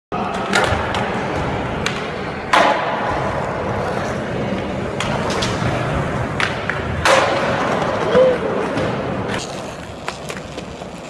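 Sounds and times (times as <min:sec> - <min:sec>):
skateboard clack: 0:00.2 - 0:11.0
skateboard wheels rolling on hard floor: 0:00.3 - 0:11.0.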